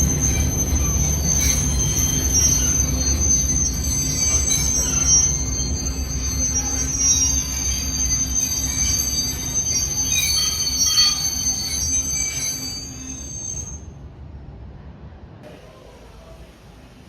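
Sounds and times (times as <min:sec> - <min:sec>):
train wheels squealing on rails: 0:00.0 - 0:14.0
low train rumble: 0:00.0 - 0:17.0.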